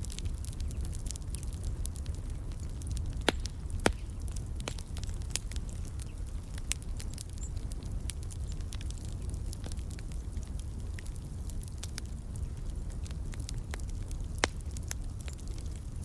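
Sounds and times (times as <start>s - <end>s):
fire popping loudly: 0.0s - 16.0s
wood fire crackling: 0.0s - 16.0s.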